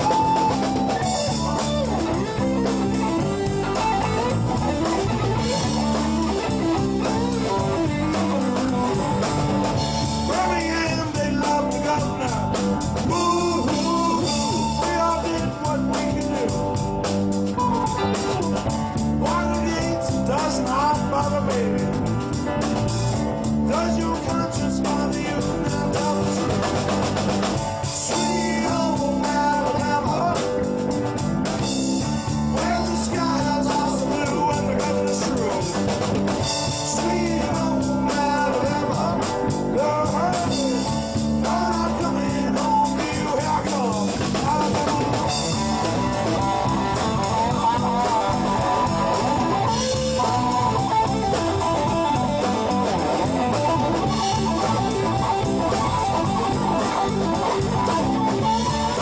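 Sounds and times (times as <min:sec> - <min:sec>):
electric guitar lead with bends: 0:00.0 - 0:59.0
rock band playing: 0:00.0 - 0:59.0.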